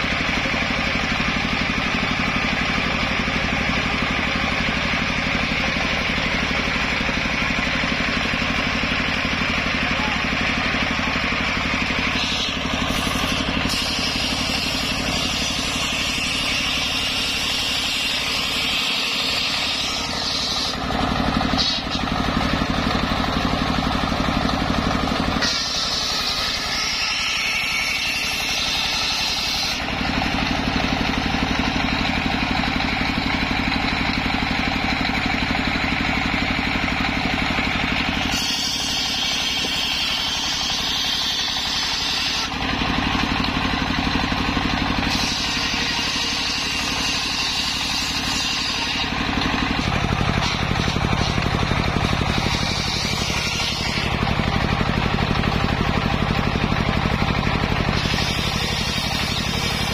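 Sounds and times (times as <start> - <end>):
circular saw blade whining in wood: 0.0 - 59.9
stationary engine running: 0.0 - 59.9.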